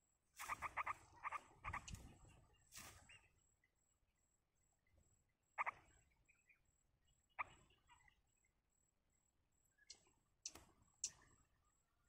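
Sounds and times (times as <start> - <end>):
songbird chirps: 0.0 - 12.0.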